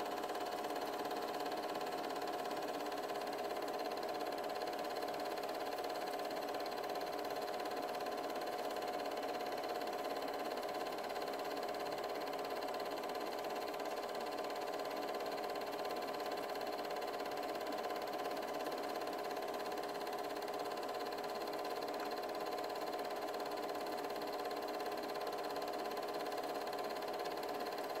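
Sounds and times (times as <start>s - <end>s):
projector motor hum: 0.0s - 28.0s.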